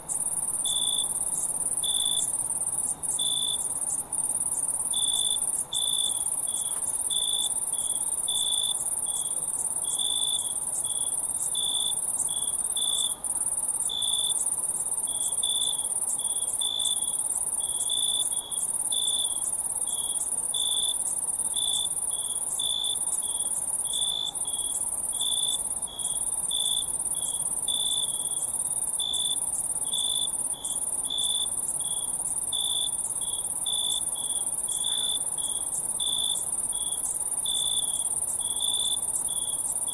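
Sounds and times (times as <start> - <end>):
high-pitched cricket trill: 0.0 - 39.9.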